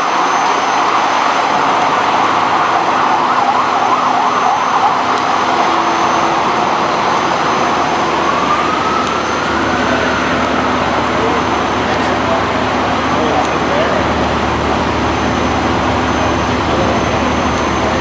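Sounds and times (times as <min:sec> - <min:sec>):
fire truck siren: 0:00.0 - 0:18.0.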